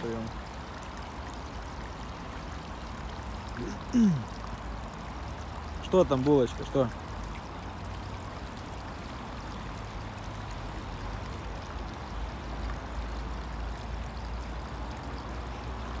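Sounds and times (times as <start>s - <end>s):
water rushing through a culvert: 0.0s - 16.0s.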